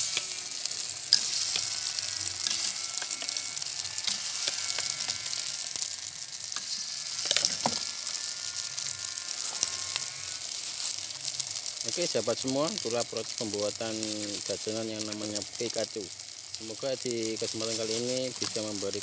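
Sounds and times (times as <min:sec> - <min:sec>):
batter sizzling in a frying pan: 0:00.0 - 0:19.0.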